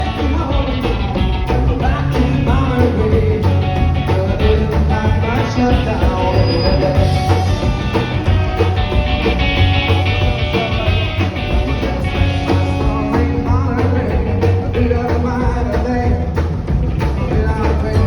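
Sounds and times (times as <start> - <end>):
rock and roll music with singing: 0.0 - 18.0.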